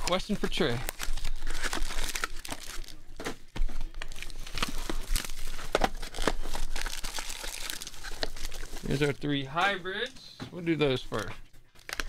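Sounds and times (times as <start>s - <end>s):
plastic wrapping torn and crinkled: 0.0s - 9.3s, 11.1s - 12.0s.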